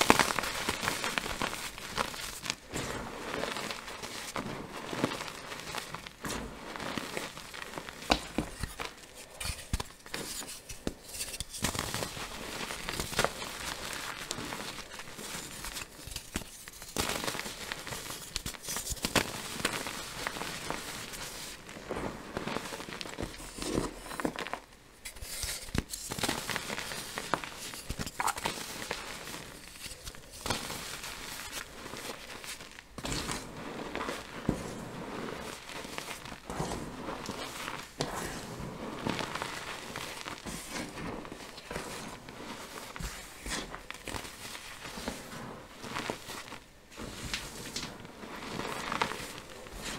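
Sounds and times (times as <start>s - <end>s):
chalk crunching and crackling: 0.0s - 49.9s.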